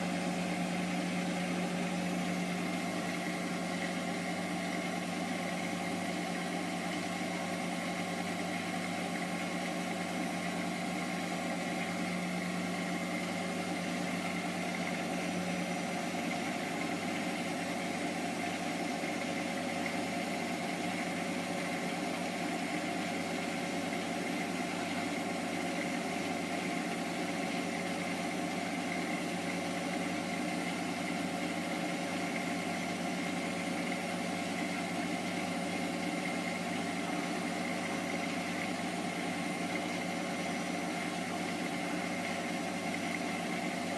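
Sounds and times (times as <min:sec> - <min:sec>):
washing machine motor hum: 0:00.0 - 0:43.9.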